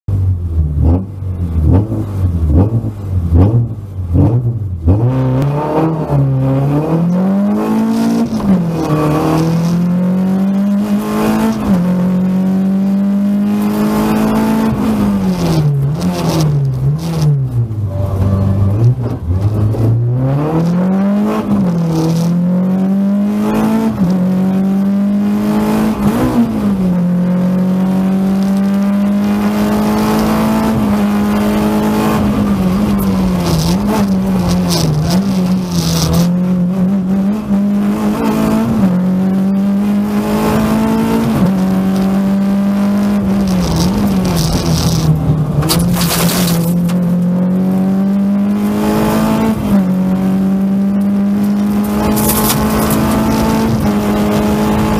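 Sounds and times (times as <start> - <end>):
rally car engine at high revs: 0.1 - 54.9.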